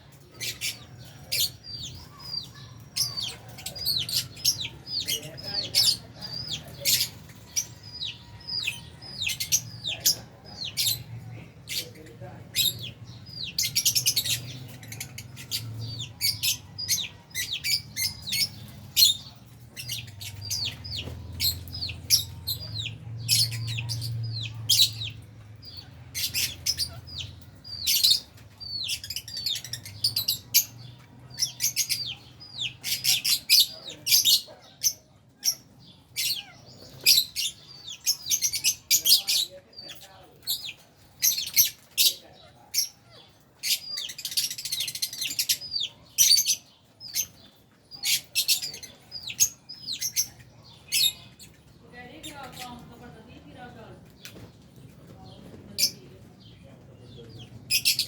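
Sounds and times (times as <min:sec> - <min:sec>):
lovebirds chirping: 0:00.0 - 0:58.0.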